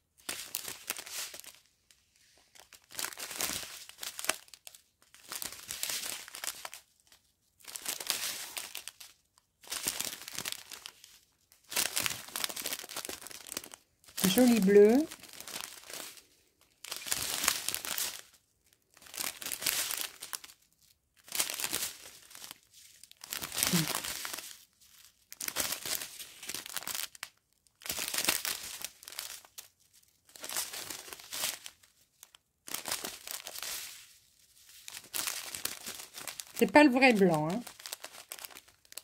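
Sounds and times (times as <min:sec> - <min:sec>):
plastic bags crinkling: 0:00.0 - 0:39.0.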